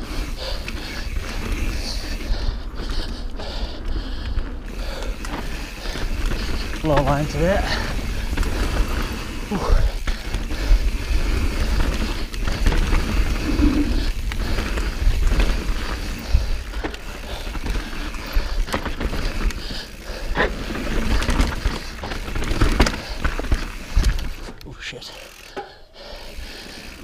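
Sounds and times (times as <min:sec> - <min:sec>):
bike knocking and rattling: 0:00.0 - 0:24.6
bike tyres rumbling over dirt: 0:00.0 - 0:24.6, 0:25.2 - 0:27.0.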